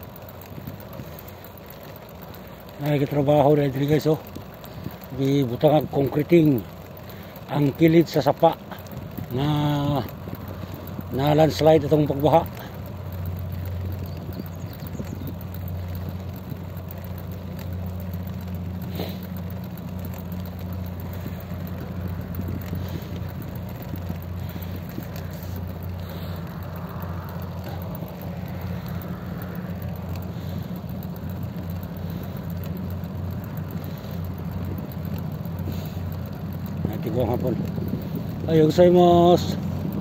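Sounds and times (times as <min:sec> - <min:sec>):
steady rushing hiss: 0:00.0 - 0:40.0
vehicle engine droning: 0:00.0 - 0:40.0.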